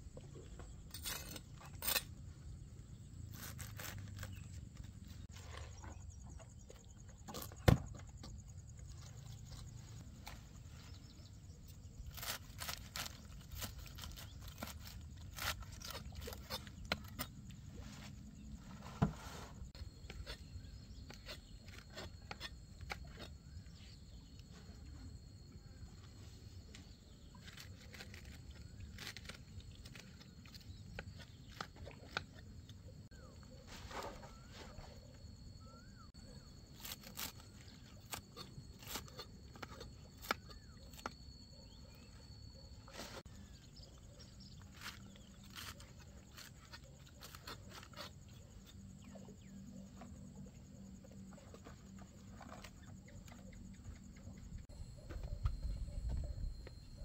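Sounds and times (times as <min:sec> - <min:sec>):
faint steady high whine: 0:00.0 - 0:57.0.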